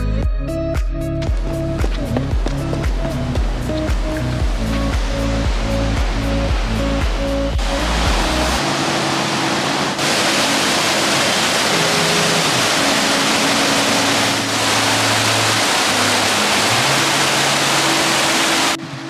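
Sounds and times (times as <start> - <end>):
background music: 0.0 - 19.0
water rushing over lock gates: 2.3 - 18.9.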